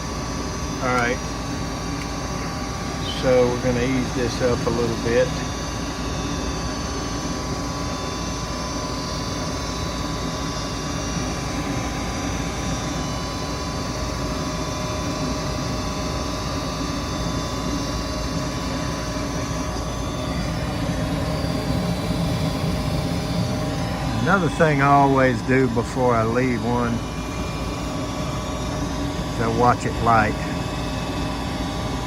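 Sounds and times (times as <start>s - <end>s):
gas furnace humming: 0.0s - 32.0s.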